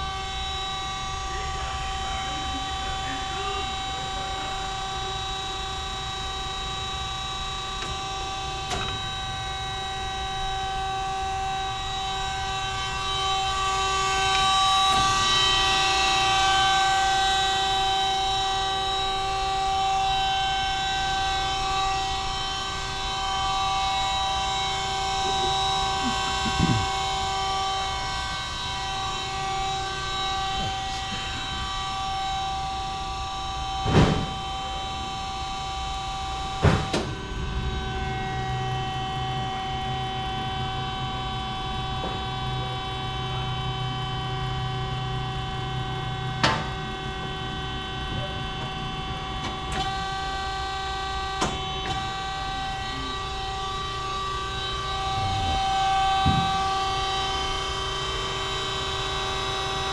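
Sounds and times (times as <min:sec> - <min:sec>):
band saw humming: 0:00.0 - 0:59.9.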